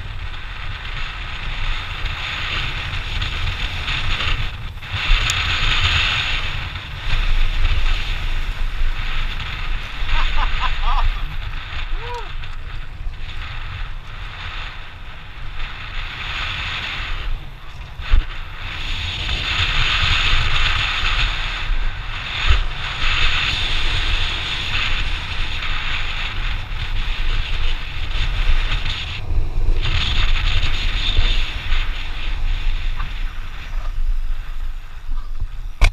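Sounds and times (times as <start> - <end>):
bike rattling: 0.0 - 35.9
wind buffeting microphone: 0.0 - 35.9.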